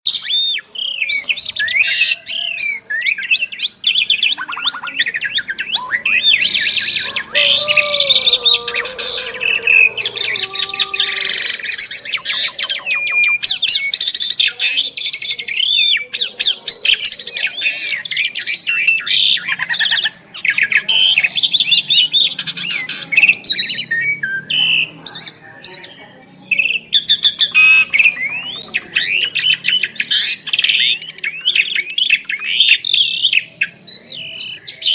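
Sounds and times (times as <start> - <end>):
starlings singing: 0.1 - 34.9.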